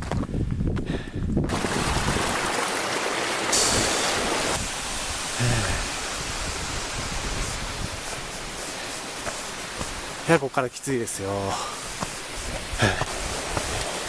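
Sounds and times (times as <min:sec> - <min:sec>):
stream flowing over rocks: 0:01.5 - 0:14.0.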